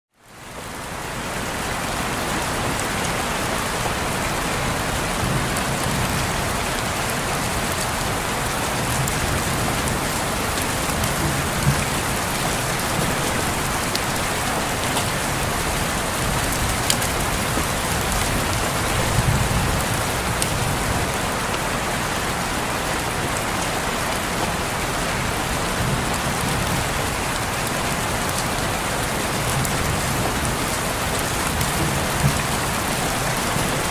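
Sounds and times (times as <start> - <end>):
rain pattering on a window: 0.1 - 33.9.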